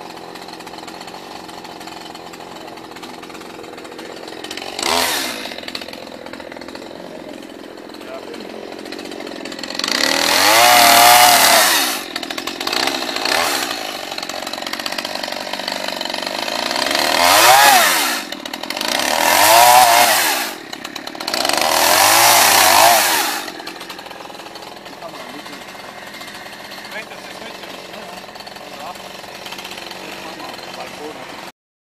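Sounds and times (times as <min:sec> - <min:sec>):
chainsaw revving and idling: 0:00.0 - 0:31.5.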